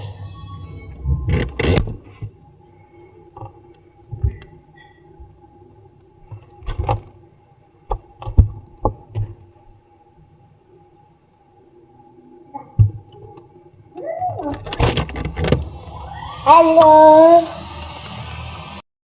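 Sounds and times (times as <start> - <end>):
faint steady hum: 0.0 - 18.8.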